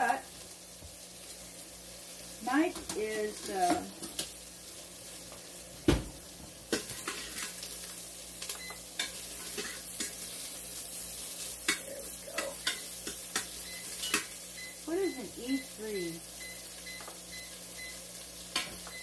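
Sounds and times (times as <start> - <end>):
fat sizzling in a pot: 0.0 - 19.0.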